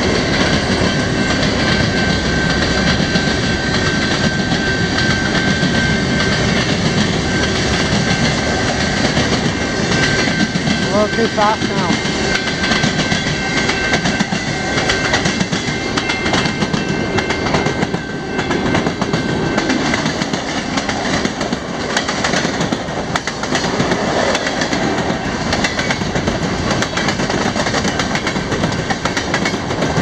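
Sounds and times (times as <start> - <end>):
train wheels clattering over rail joints: 0.0 - 11.2, 11.9 - 30.0.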